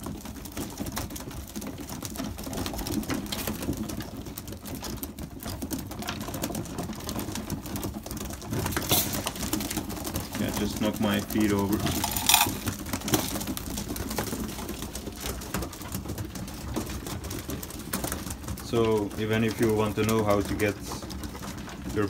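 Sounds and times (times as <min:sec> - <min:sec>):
pigeons pecking grain: 0:00.0 - 0:22.0.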